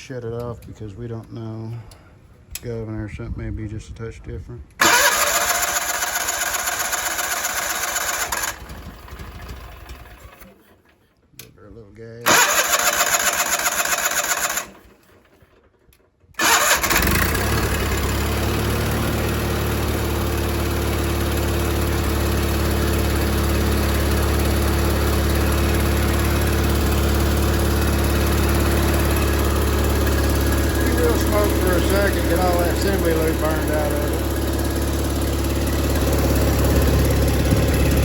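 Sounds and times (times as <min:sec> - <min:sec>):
engine cranking and running: 0:04.8 - 0:11.5, 0:12.3 - 0:38.0.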